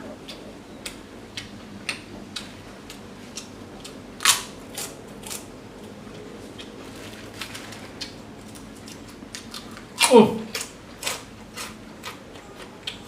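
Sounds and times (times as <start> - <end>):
person chewing crunchy food: 0.3 - 13.0.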